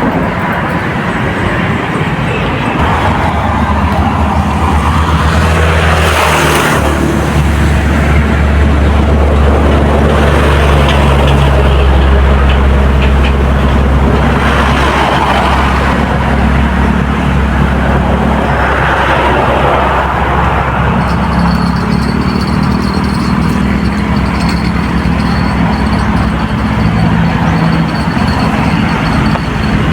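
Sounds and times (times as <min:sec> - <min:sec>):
engine droning: 0:00.0 - 0:29.9
rushing noise: 0:00.0 - 0:29.9.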